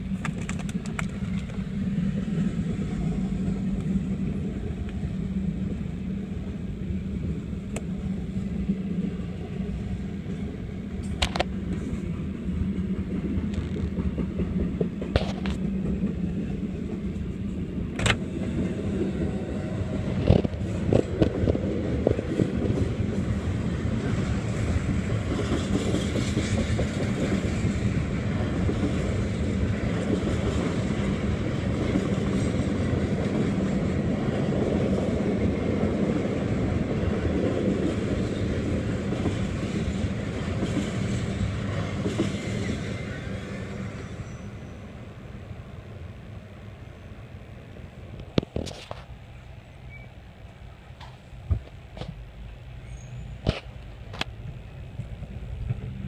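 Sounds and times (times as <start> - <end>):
train rumble with wheel clatter: 0.0 - 56.0.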